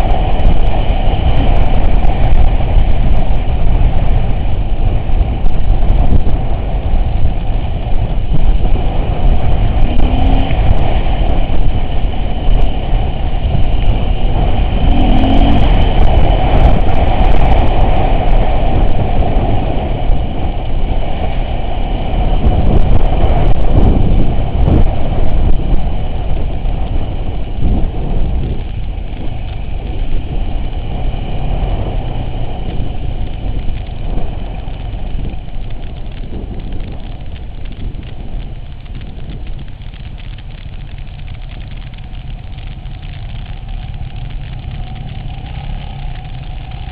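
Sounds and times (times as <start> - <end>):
off-road vehicle engine rumble: 0.0 - 46.9.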